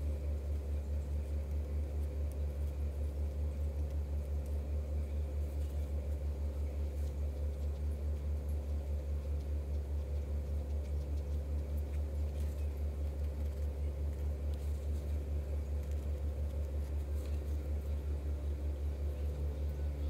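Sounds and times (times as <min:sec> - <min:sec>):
motor humming with throb: 0:00.0 - 0:20.0.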